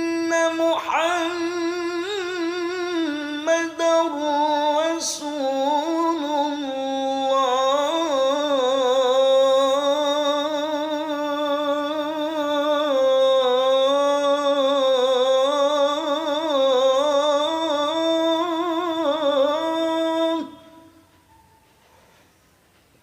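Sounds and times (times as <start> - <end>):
person singing call to prayer: 0.0 - 21.2.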